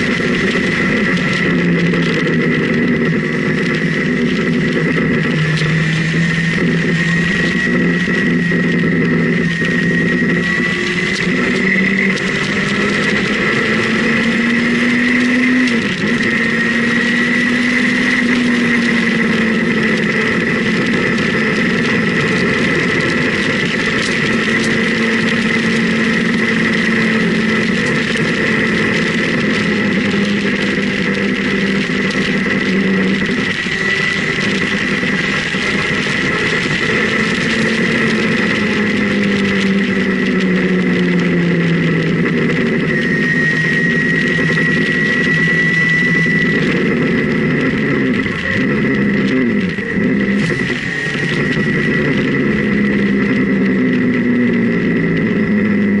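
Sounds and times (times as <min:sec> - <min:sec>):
motorcycle engine cruising: 0:00.0 - 0:56.0
wind rushing over camera: 0:00.0 - 0:56.0.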